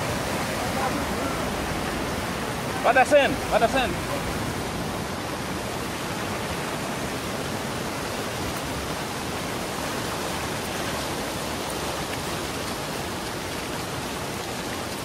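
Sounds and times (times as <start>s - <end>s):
floodwater rushing in river: 0.0s - 15.0s
heavy rain falling: 0.0s - 15.0s.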